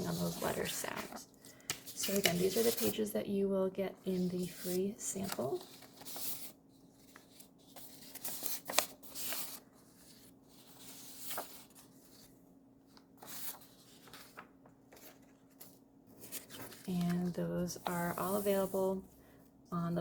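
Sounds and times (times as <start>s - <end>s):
paper rustling: 0.0s - 3.1s, 4.1s - 18.8s.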